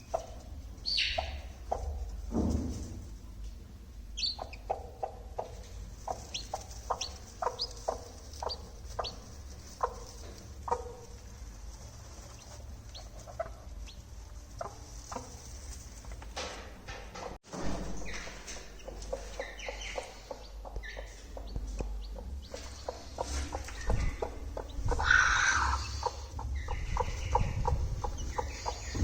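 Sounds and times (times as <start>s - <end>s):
hen clucking: 0.0s - 2.2s, 4.2s - 16.1s, 18.0s - 29.0s
chicks peeping: 0.0s - 16.4s, 17.6s - 29.0s
low steady hum: 0.0s - 29.0s.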